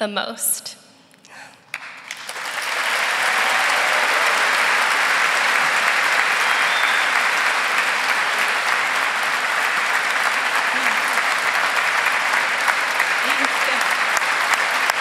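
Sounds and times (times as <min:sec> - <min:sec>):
audience applauding: 0:01.7 - 0:15.0.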